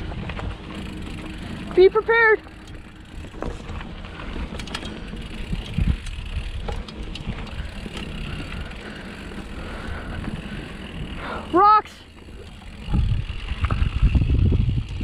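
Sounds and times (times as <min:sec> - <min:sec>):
bike clicking and rattling: 0:00.0 - 0:15.0
bike tyres rumbling on trail: 0:00.0 - 0:15.0.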